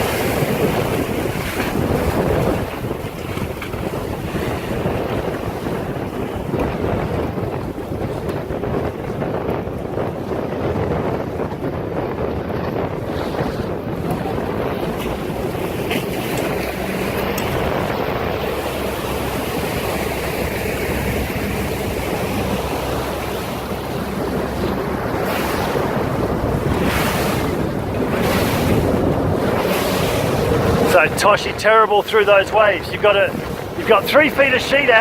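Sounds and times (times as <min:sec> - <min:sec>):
wind buffeting microphone: 0:00.0 - 0:35.0
wind-driven waves rushing: 0:00.0 - 0:35.0.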